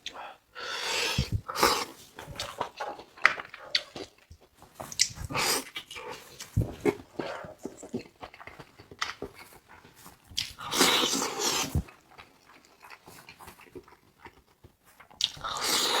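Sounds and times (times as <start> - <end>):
wet chewing clicks: 1.6 - 16.0.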